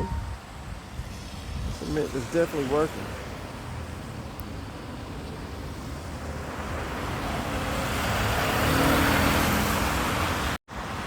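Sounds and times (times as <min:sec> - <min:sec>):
car passing on wet street: 0:00.6 - 0:11.0.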